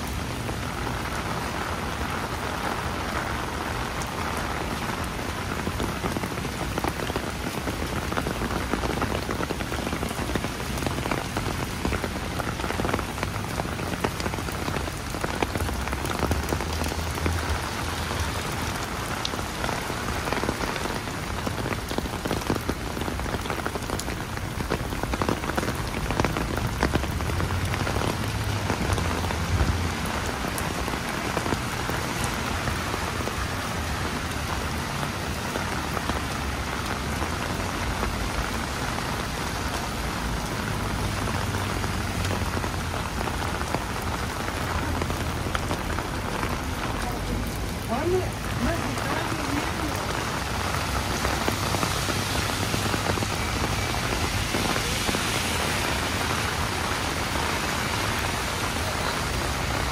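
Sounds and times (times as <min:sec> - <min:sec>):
heavy rain on umbrella: 0:00.0 - 0:59.9.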